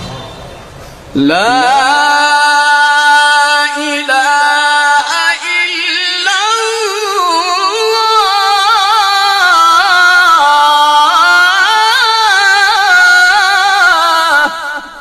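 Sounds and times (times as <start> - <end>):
man reciting melismatically: 1.1 - 15.0.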